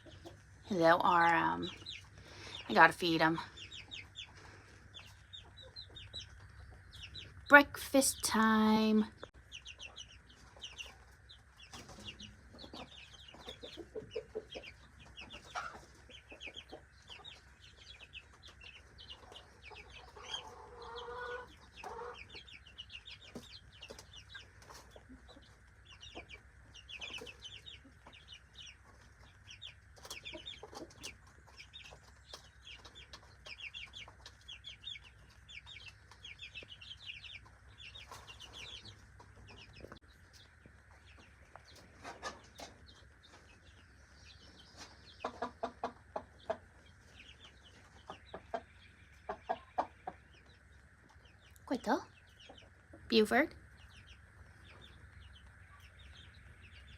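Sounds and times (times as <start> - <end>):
chicks cheeping and clucking: 0.0 - 56.9.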